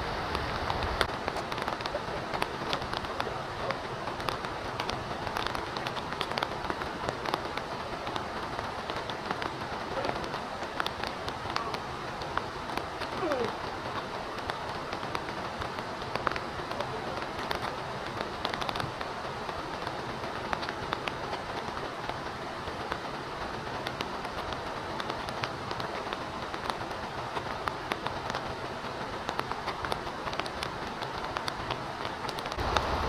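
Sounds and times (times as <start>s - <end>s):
steady rain hiss: 0.0s - 33.0s
rain drop ticks: 0.1s - 33.0s.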